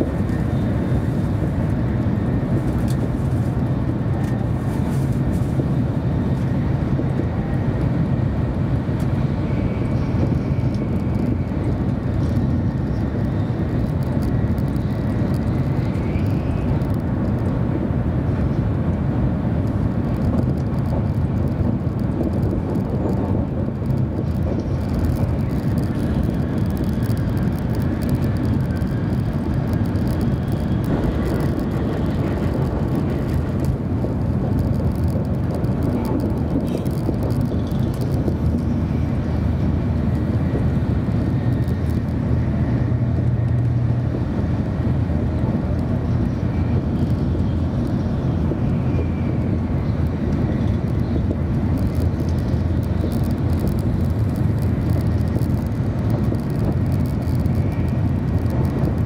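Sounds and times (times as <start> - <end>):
low train running rumble: 0.0 - 59.0.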